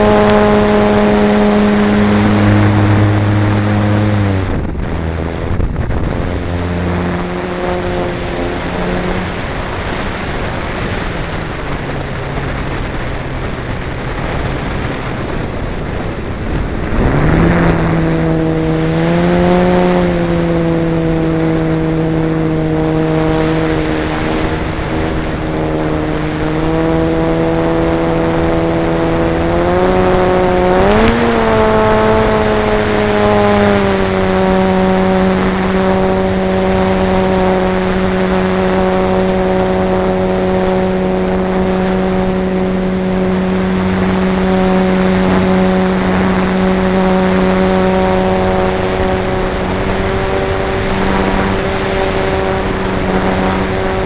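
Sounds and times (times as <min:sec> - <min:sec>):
electric motor and propeller whine: 0:00.0 - 0:54.0
wind rush over microphone: 0:00.0 - 0:54.0.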